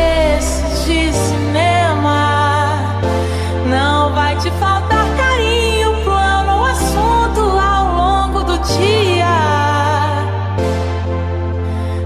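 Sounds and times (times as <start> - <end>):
deep bass: 0.0 - 12.0
held synth chords: 0.0 - 12.0.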